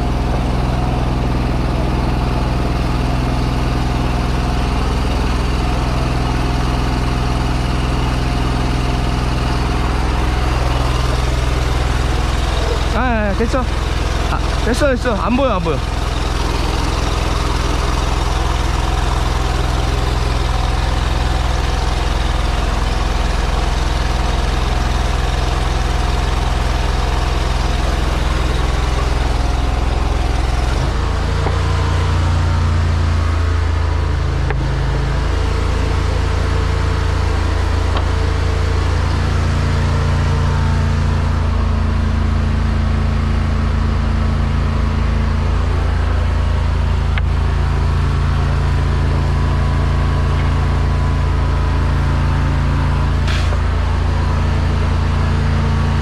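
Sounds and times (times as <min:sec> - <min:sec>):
sewer jetter engine running: 0:00.0 - 0:56.0.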